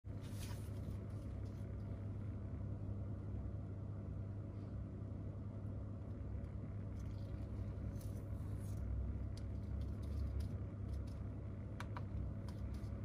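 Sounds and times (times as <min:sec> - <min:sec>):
steady low hum: 0:00.0 - 0:13.0
faint rumble: 0:00.1 - 0:13.0.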